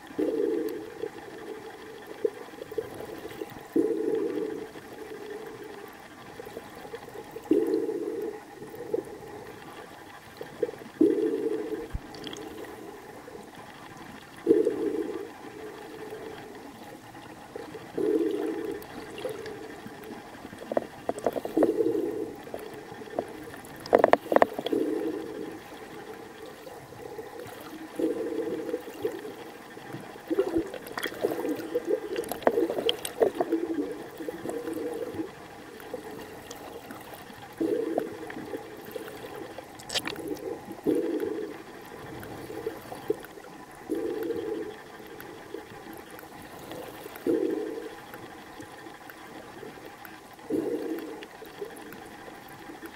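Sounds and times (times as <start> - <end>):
water rushing underwater: 0.0 - 52.9.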